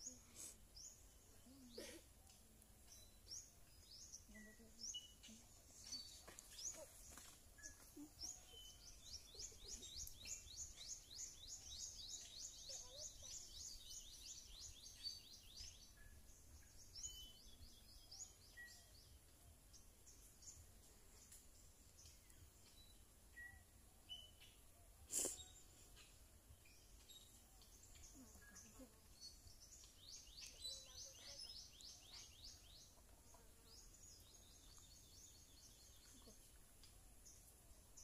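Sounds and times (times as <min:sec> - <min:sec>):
bird song: 0:00.0 - 0:38.0.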